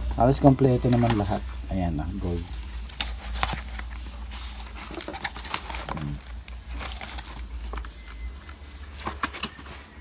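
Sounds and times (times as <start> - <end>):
packaging rustling and crackling: 0.0 - 10.0.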